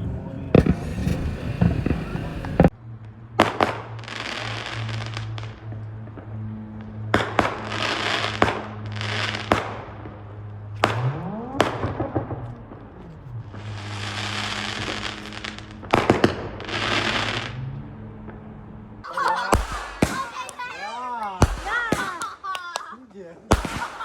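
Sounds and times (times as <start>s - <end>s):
fireworks bangs: 0.0s - 2.7s, 3.4s - 24.0s
fireworks crackling: 0.5s - 2.7s, 3.4s - 17.6s, 19.0s - 24.0s.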